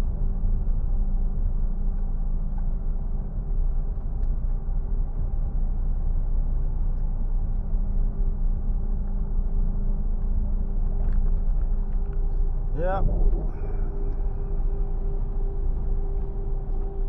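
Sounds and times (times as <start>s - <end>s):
road rumble: 0.0s - 17.0s
car engine hum: 0.1s - 17.0s.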